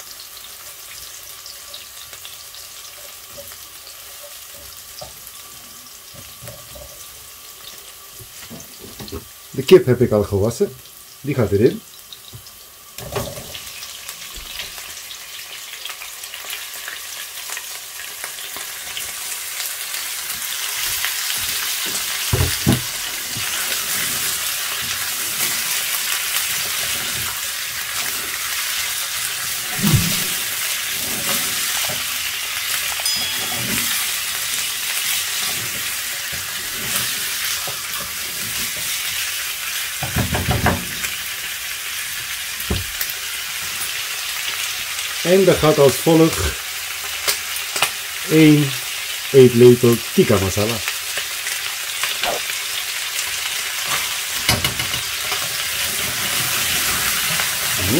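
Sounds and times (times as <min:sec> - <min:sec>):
chicken sizzling in hot oil: 0:00.0 - 0:57.9.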